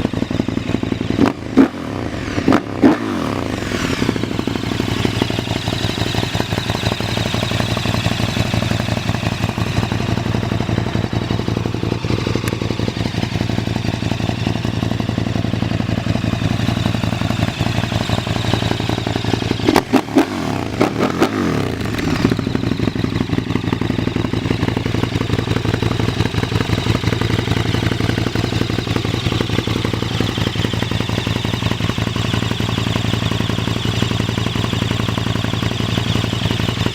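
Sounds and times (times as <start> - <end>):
motorcycle engine idling: 0.0 - 36.9
motorcycle throttle blips: 0.1 - 36.9.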